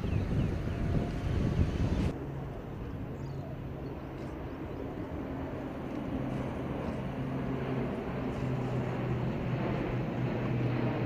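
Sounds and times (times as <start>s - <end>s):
low propeller drone overhead: 0.0s - 11.0s.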